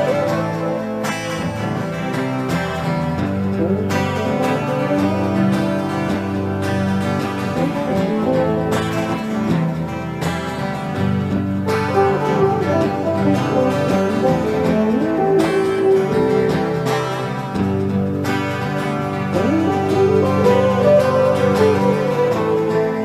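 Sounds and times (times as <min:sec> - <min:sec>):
plucked acoustic guitar music: 0:00.0 - 0:23.0.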